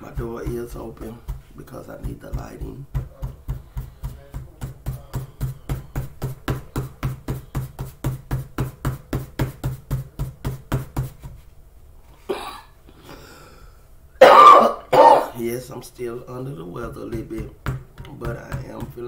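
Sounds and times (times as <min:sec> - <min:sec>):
rhythmic thumping: 0:00.0 - 0:11.5, 0:14.2 - 0:19.0.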